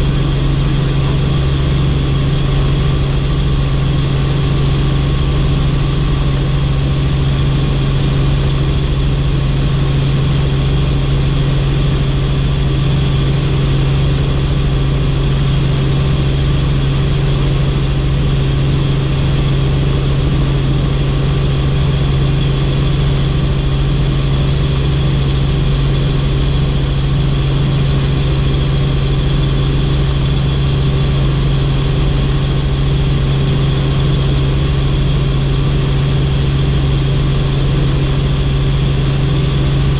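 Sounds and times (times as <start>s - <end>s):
helicopter droning: 0.0s - 39.9s.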